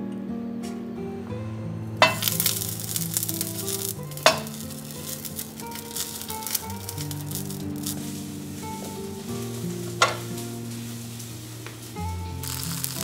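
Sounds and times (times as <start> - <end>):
soft background music: 0.0 - 13.0
fish sizzling in hot oil: 2.0 - 13.0.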